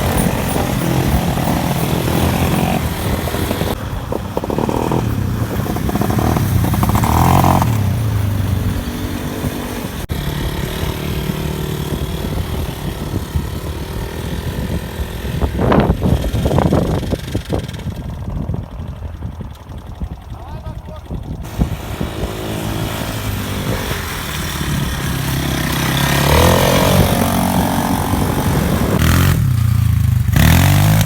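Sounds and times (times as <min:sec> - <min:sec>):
off-road vehicle engines revving: 0:00.0 - 0:31.0.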